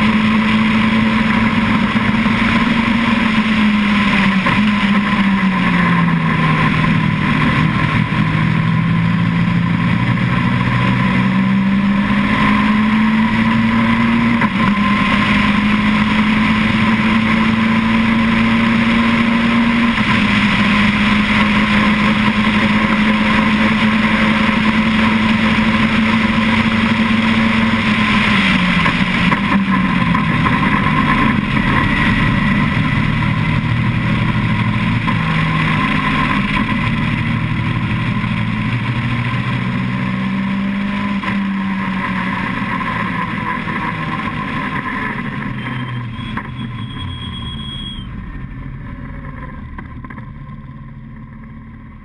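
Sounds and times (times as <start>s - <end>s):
car engine running: 0.0s - 52.0s.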